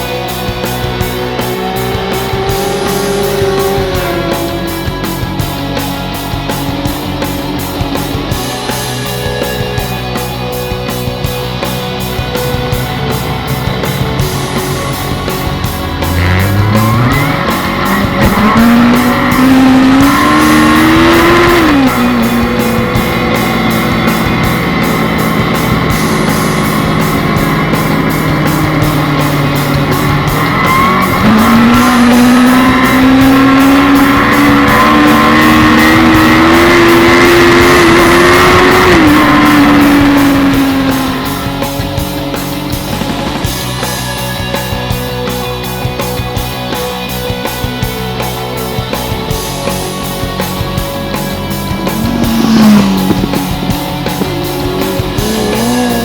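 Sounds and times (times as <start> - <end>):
motorcycle engine accelerating: 0.0 - 56.0
rock guitar music: 0.0 - 56.0.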